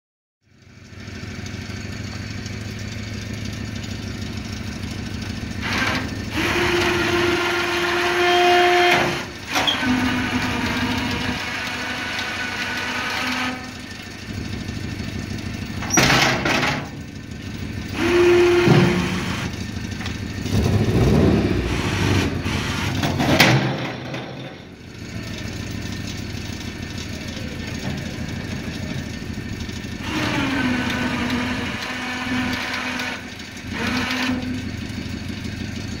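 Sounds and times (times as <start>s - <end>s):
car engine idling: 0.5s - 36.0s
hydraulic pump whining: 1.4s - 36.0s.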